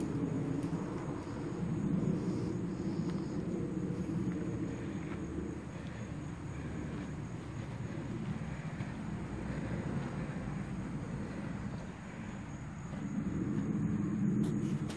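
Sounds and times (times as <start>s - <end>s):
low background rumble: 0.0s - 14.9s.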